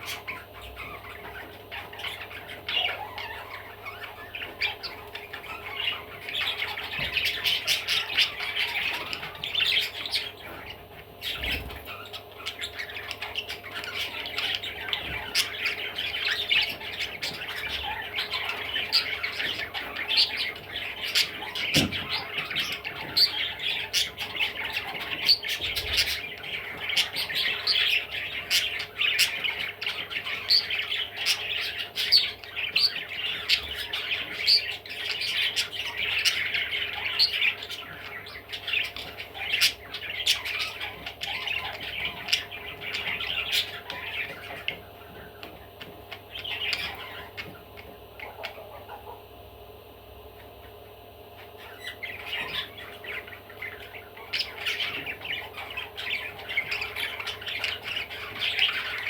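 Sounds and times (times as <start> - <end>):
budgerigar chattering and warbling: 0.0 - 49.4, 50.4 - 59.0.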